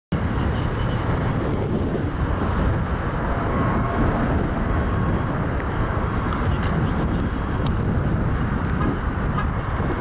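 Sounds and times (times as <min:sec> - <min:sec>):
distant jet engine rumble: 0:00.1 - 0:10.0.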